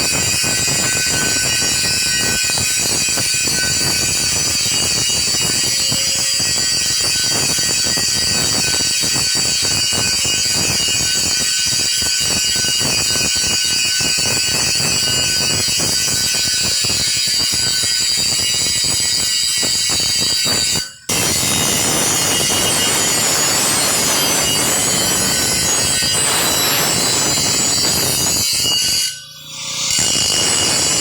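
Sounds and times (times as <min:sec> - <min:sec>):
welding arc crackling and sizzling: 0:00.0 - 0:28.7.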